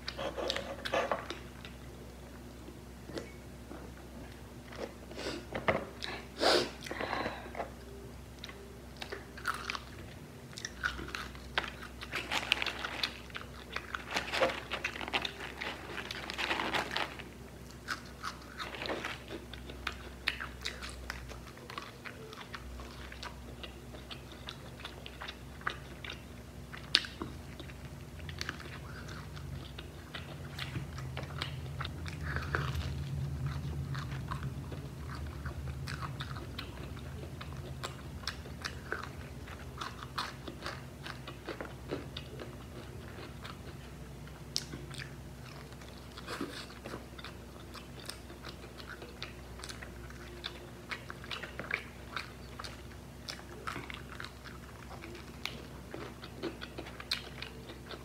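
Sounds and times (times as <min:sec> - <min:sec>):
crunchy chewing of fried chicken: 0:00.0 - 0:58.0
low steady hum: 0:00.0 - 0:58.0.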